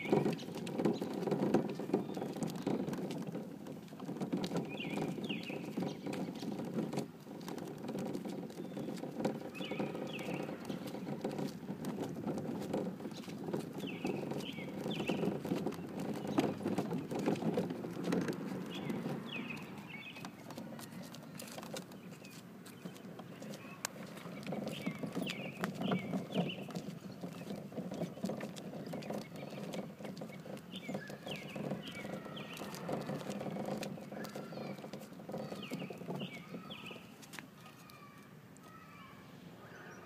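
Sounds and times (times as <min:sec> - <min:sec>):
toy wagon wheels rolling on asphalt: 0:00.0 - 0:39.2.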